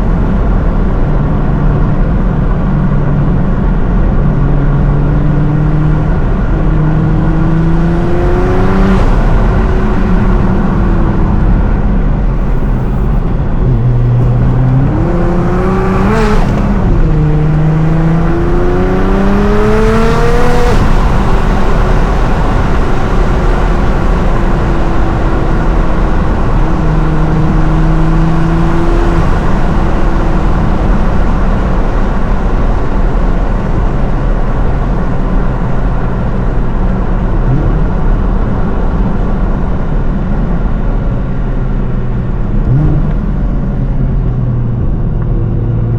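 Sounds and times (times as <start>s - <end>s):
car engine revving: 0.0s - 45.9s
road rumble: 0.0s - 45.9s.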